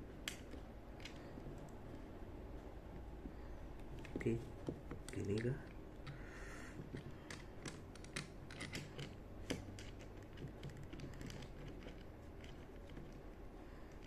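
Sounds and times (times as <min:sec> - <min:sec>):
small parts clicking and tapping: 0:00.2 - 0:02.0, 0:03.2 - 0:14.0.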